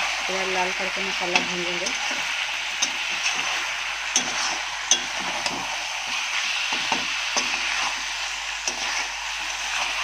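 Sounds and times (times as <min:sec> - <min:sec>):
food sizzling in a pan: 0:00.0 - 0:10.0
spatula stirring and scraping: 0:01.2 - 0:10.0.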